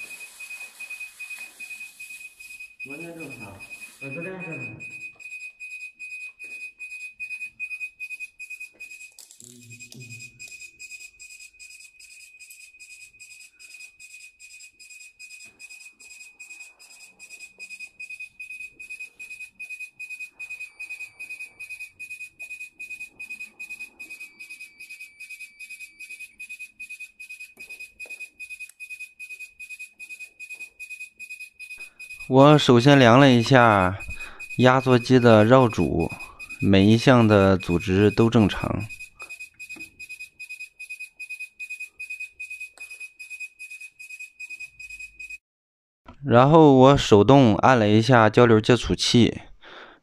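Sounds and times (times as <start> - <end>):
high-pitched alarm beeps: 0.0 - 45.4.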